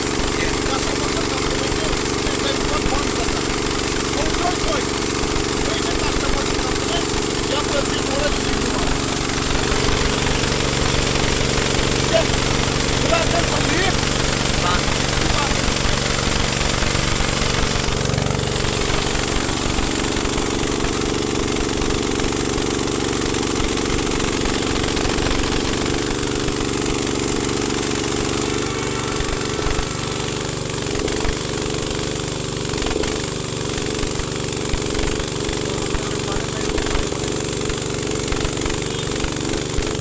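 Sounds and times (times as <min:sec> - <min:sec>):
small petrol engine running: 0:00.0 - 0:40.0
water jetting from spray gun: 0:00.0 - 0:40.0.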